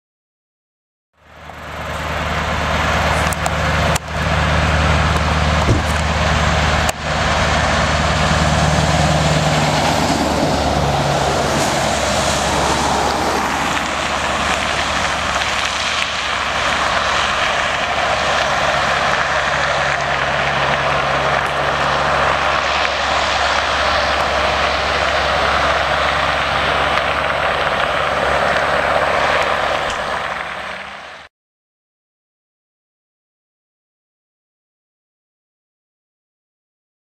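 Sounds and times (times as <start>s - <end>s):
diesel truck engine: 1.2s - 31.3s
rush of tyre and air noise: 1.2s - 31.3s.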